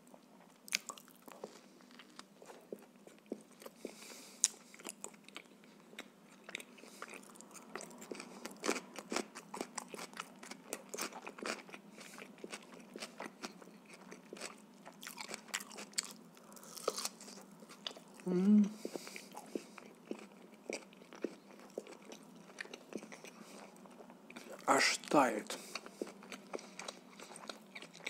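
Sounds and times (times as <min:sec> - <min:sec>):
man chewing food: 0:00.0 - 0:28.0.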